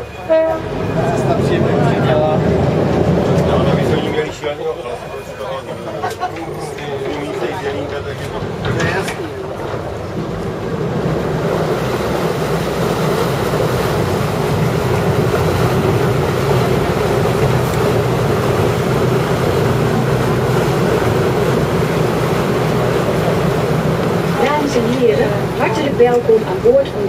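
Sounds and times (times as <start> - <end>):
boat engine droning: 0.0 - 27.0
water rushing along hull: 0.0 - 27.0.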